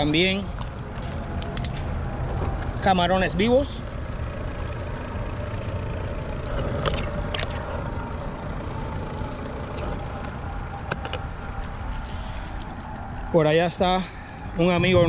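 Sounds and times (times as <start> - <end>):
faint hum: 0.0 - 15.0
low outdoor rumble: 0.0 - 15.0.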